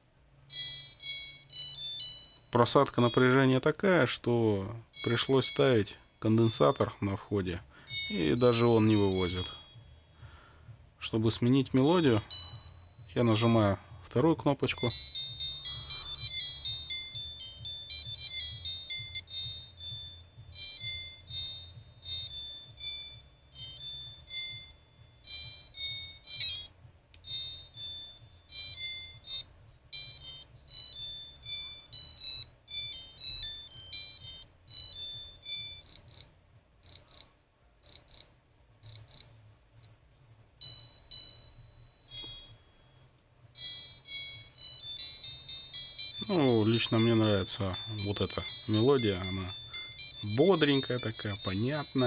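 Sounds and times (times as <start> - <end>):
electronic doorbell melody beeping: 0.5 - 3.6, 4.3 - 39.4, 40.6 - 52.0.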